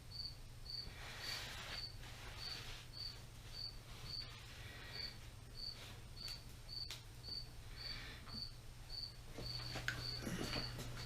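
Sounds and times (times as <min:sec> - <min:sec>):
low steady hum: 0:00.0 - 0:11.0
cricket chirping: 0:00.1 - 0:04.3, 0:04.9 - 0:10.8.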